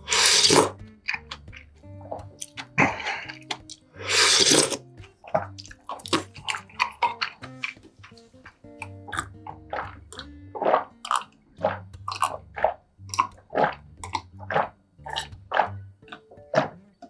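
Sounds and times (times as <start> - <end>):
wet chewing and biting: 0.0 - 16.9
soft background music: 0.0 - 17.0.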